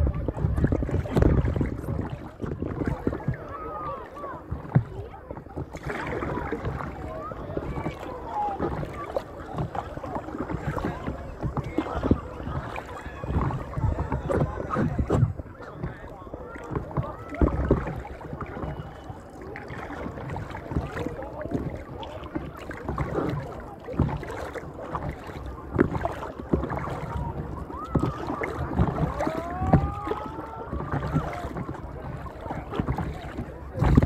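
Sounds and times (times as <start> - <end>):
paddle strokes splashing: 0.0 - 34.0
water lapping against paddleboard: 0.0 - 34.0
wind on microphone: 0.0 - 34.0.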